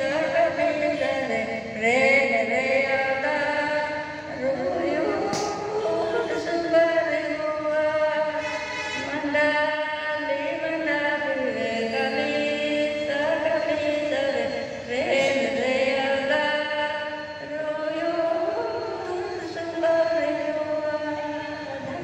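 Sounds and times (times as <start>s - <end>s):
voices singing slow song: 0.0s - 22.0s.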